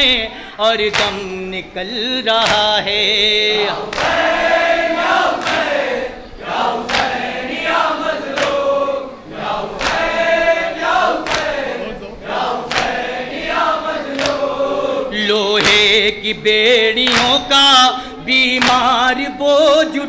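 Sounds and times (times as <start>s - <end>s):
men singing in chorus: 0.0s - 20.0s.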